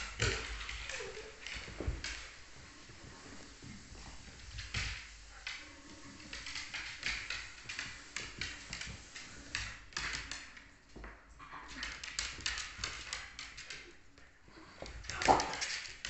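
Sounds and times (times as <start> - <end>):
dog claws clicking on hardwood floor: 0.0 - 2.6, 3.4 - 16.0.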